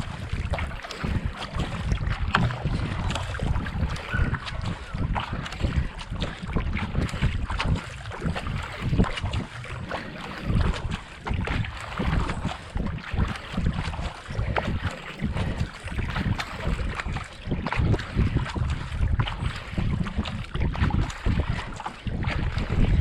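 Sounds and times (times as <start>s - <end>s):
kayak paddle strokes in water: 0.0s - 23.0s
wind buffeting microphone: 0.0s - 23.0s.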